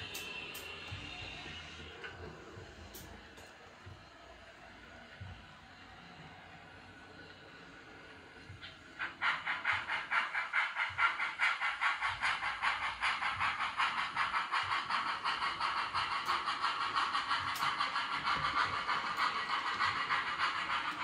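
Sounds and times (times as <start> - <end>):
model steam exhaust chuffs: 0.0 - 4.1, 7.5 - 21.0.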